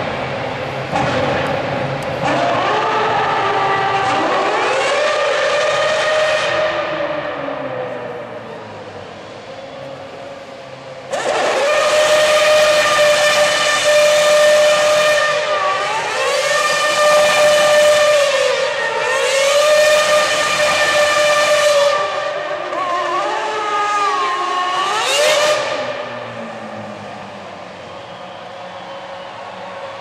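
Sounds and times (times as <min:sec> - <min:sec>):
racing car engine screaming: 0:00.9 - 0:08.7, 0:11.1 - 0:30.0.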